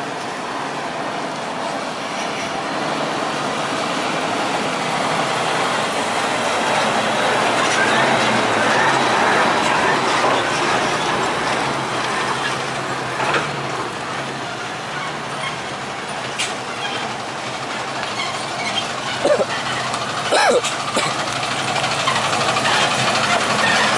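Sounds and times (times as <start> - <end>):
heavy vehicle passing: 0.0 - 23.9.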